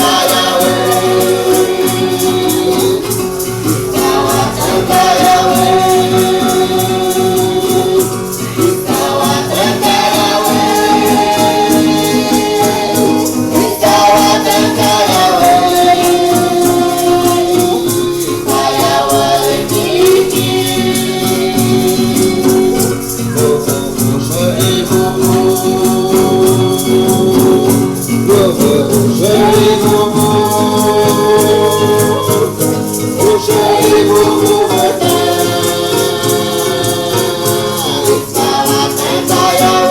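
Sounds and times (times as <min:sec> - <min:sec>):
shaken rattles: 0:00.0 - 0:39.9
voices singing a chant: 0:00.0 - 0:39.9.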